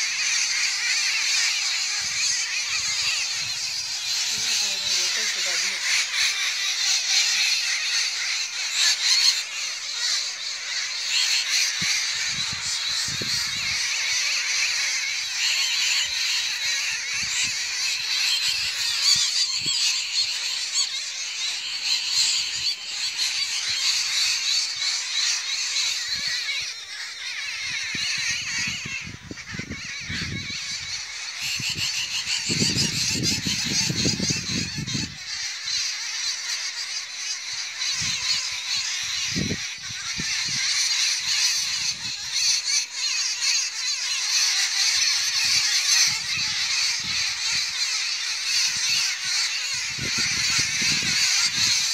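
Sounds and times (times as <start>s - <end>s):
birds chirping and chattering: 0.0s - 51.9s.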